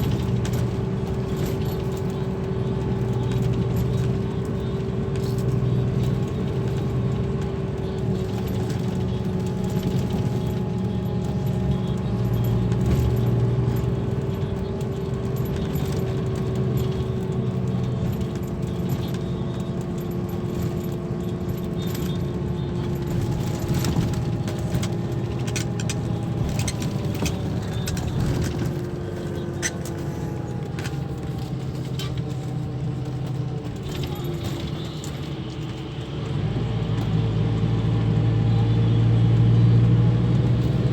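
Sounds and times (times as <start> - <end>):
coach engine running: 0.0 - 40.9.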